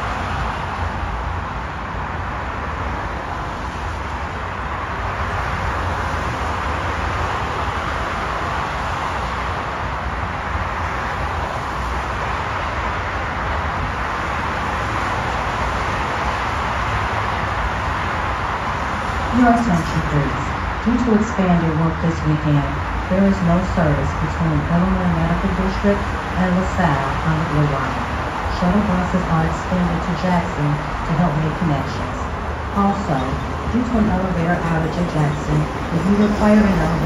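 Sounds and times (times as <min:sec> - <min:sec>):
expressway traffic noise: 0:00.0 - 0:37.0
train rolling along rails: 0:00.0 - 0:37.0.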